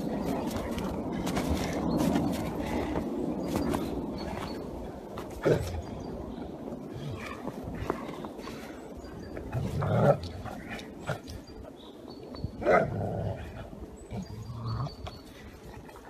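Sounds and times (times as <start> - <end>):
dogs growling: 0.0 - 16.0.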